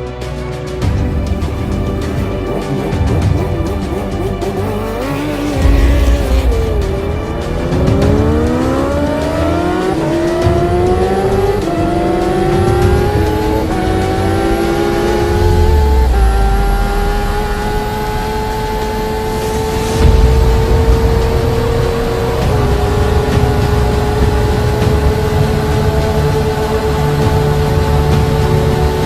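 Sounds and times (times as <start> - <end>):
motorcycle engine accelerating: 0.8 - 29.0.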